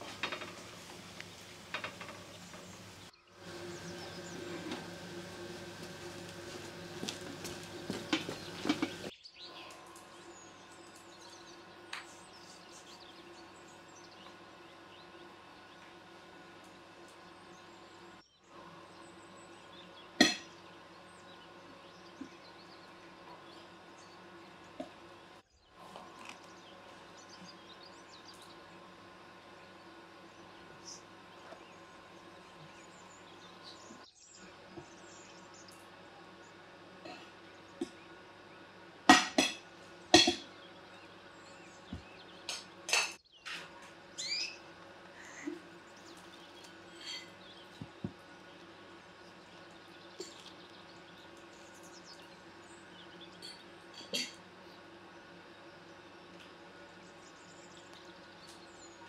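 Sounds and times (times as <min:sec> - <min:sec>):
small birds chirping: 0:00.0 - 0:38.8, 0:40.2 - 0:59.0
steady low hum: 0:00.0 - 0:59.0.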